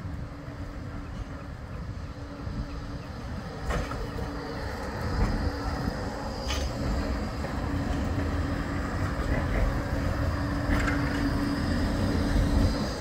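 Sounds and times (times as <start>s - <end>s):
tram rumbling past: 0.0s - 13.0s.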